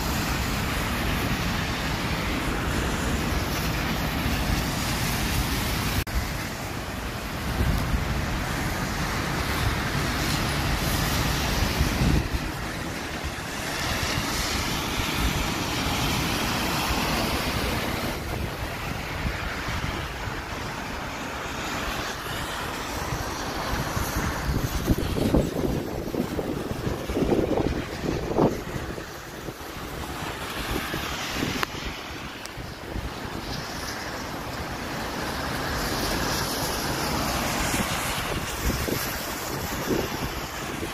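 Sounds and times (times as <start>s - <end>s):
rain: 0.0s - 40.9s
traffic passing on wet road: 0.0s - 40.9s
wind buffeting microphone: 0.0s - 40.9s.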